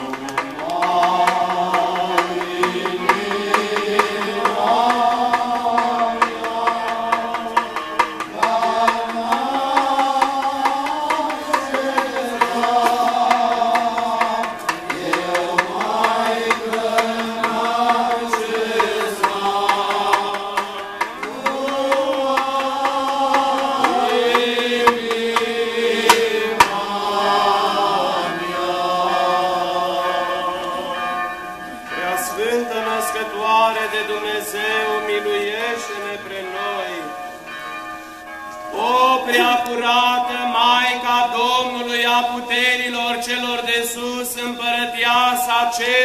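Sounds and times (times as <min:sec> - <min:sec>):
male choir chanting a hymn: 0:00.0 - 0:37.5, 0:38.7 - 0:46.0.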